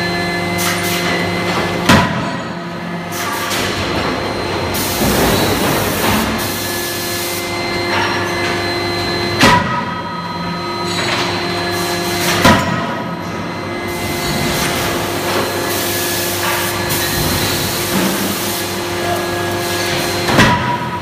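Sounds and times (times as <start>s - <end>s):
hydraulic machinery hum and whine: 0.0s - 21.0s.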